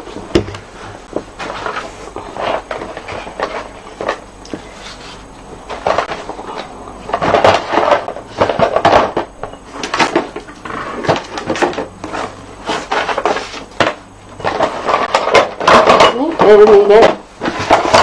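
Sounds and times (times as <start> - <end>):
items clattering on a table: 0.0 - 18.0.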